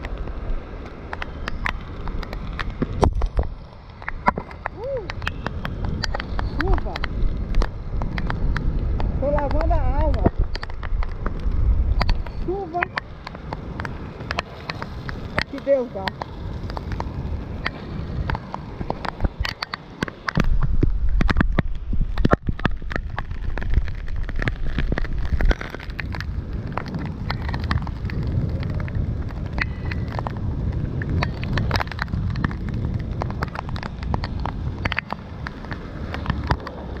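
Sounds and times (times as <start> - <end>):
raindrops ticking on camera housing: 0.0 - 37.0
wind rumble on microphone: 0.0 - 37.0.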